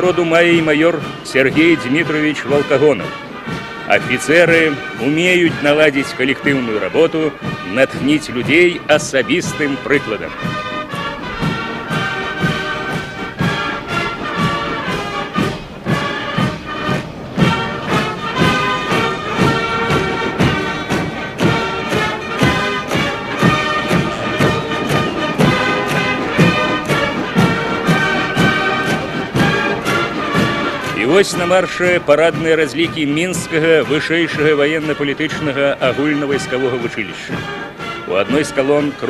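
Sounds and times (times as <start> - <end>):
brass band playing a march: 0.0 - 39.0.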